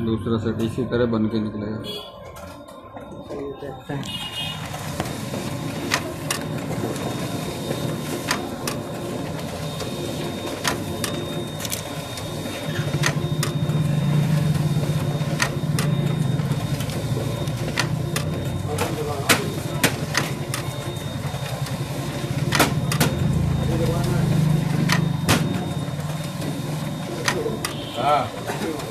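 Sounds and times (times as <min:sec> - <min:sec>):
photocopier humming: 0:00.0 - 0:28.9
photocopier clicks: 0:04.6 - 0:23.3, 0:23.9 - 0:28.9.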